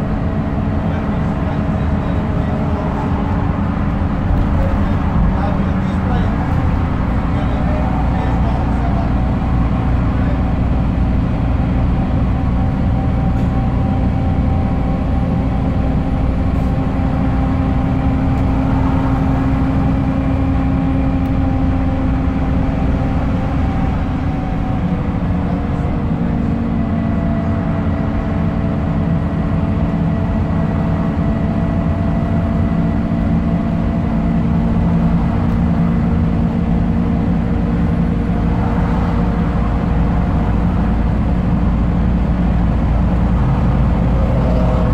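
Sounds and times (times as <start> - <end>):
bus engine whine: 0.0 - 44.9
road rumble: 0.0 - 44.9.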